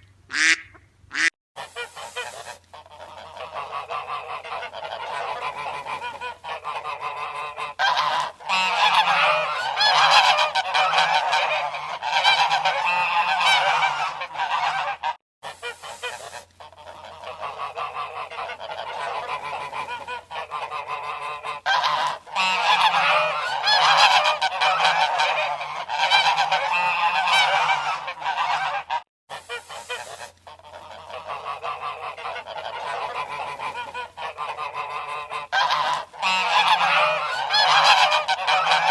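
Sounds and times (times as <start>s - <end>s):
geese honking: 0.3s - 38.9s.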